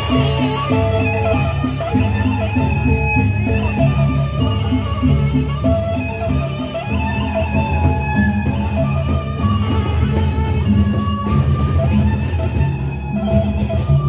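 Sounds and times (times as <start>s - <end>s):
bamboo flute melody: 0.0s - 14.0s.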